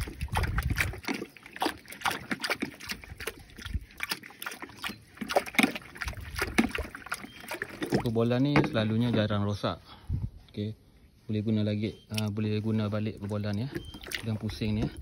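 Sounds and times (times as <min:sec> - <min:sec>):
water sloshing in a tank: 0:00.0 - 0:09.8, 0:12.0 - 0:15.0.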